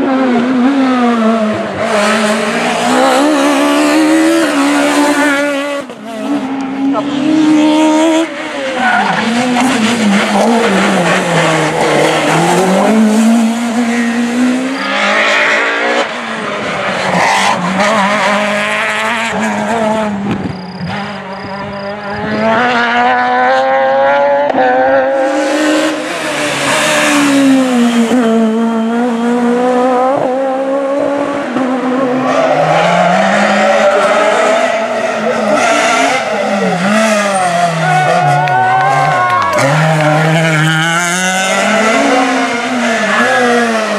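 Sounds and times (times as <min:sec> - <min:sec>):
rally car engine driven hard: 0:00.0 - 0:43.9.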